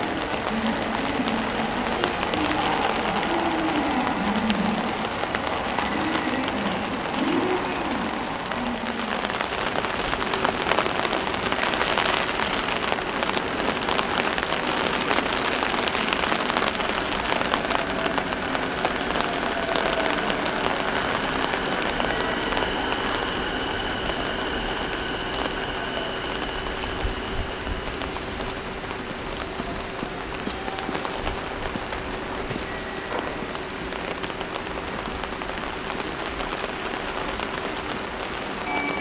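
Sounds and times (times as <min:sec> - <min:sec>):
faint electric train tones: 0:00.0 - 0:39.0
heavy rain: 0:00.0 - 0:39.0.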